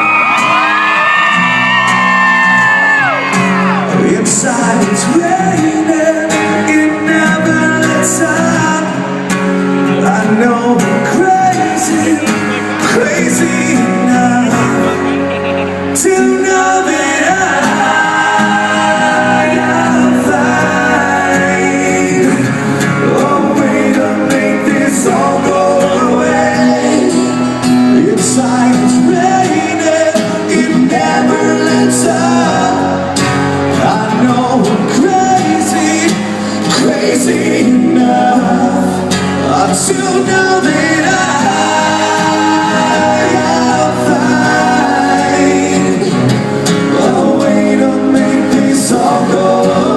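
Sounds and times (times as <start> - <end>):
hard rock song: 0.0 - 49.9
man singing: 3.7 - 49.9.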